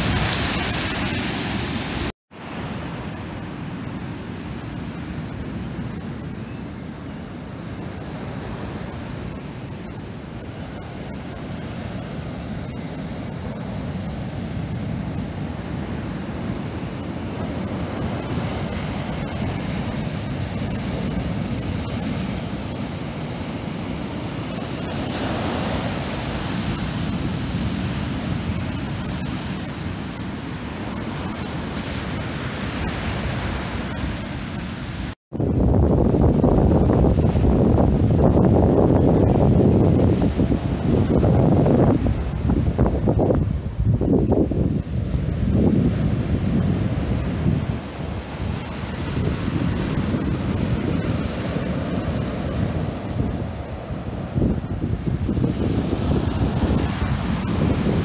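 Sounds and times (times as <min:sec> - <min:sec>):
surf breaking on beach: 0:00.0 - 0:58.0
wind rumbling on microphone: 0:00.0 - 0:58.0.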